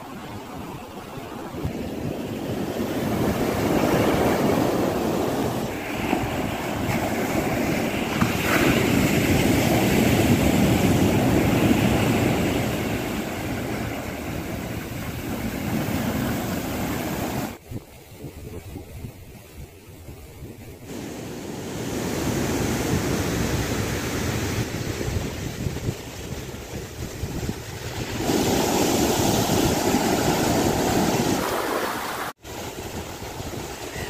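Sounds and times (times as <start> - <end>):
ocean waves breaking on shore: 0.0 - 17.6, 20.8 - 34.0.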